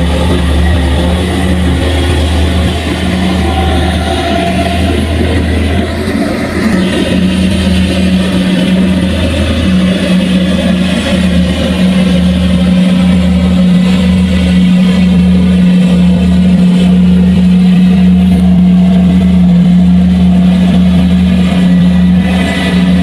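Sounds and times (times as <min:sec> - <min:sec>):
farm machine engine humming: 0:00.0 - 0:23.0.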